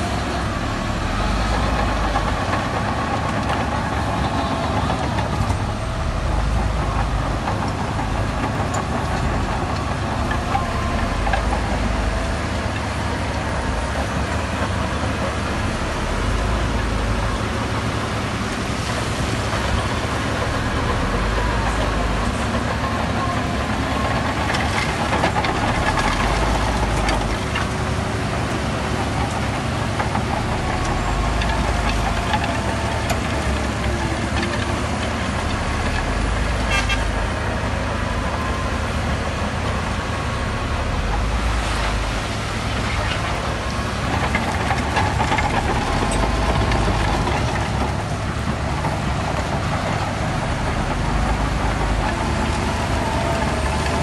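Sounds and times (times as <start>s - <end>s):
heavy machinery diesel engines: 0.0s - 54.0s.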